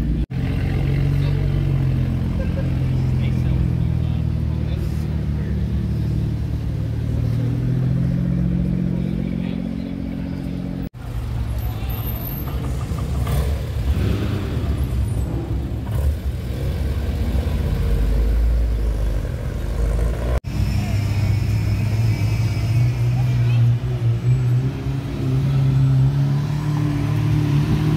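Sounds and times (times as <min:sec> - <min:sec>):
car engine pulling away: 0:00.0 - 0:27.9.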